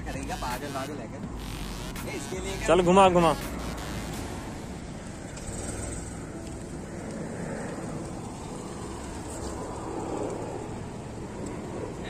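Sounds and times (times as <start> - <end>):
car engine and tyres on dirt: 1.3 - 12.0.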